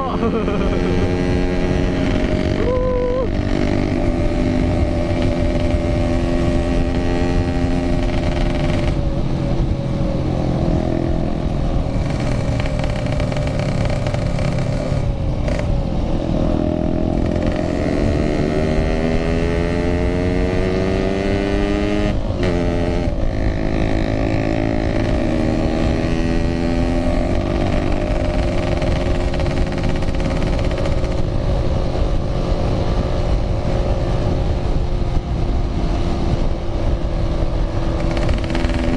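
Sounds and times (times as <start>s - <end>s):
road and wind noise: 0.0s - 38.9s
two-stroke motorcycle engine: 0.0s - 38.9s.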